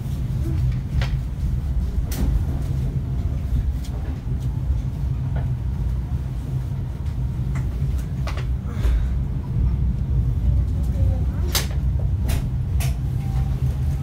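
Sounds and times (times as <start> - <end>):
passenger train rumbling: 0.0 - 14.0.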